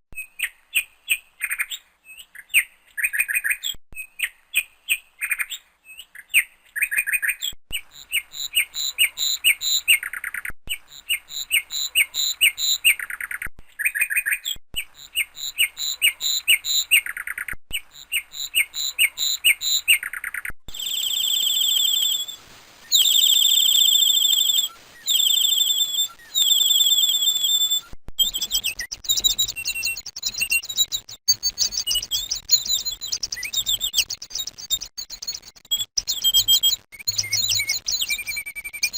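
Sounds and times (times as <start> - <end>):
songbirds chirping: 0.2 - 35.4.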